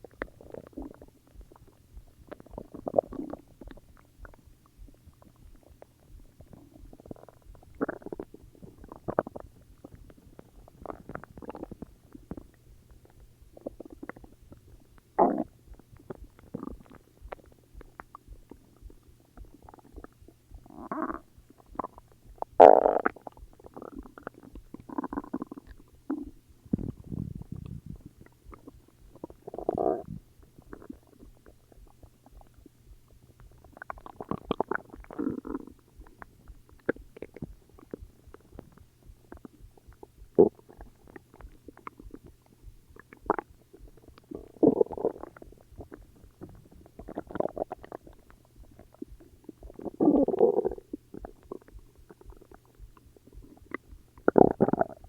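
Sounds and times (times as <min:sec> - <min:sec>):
stomach growling: 0:00.0 - 0:55.0.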